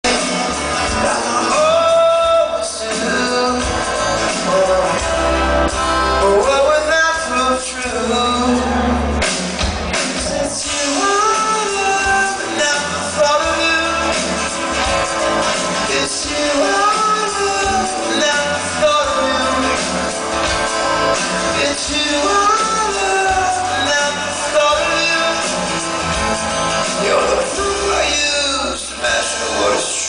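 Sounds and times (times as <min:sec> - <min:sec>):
person singing: 0:00.0 - 0:09.3, 0:09.9 - 0:30.0
heavy bass line: 0:00.0 - 0:30.0
live rock band playing: 0:00.0 - 0:30.0.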